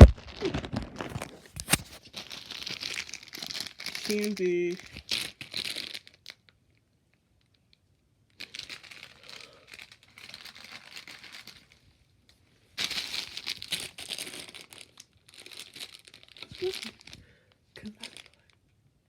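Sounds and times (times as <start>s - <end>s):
packaging crinkling: 0.0s - 6.6s, 8.3s - 11.9s, 12.8s - 18.5s.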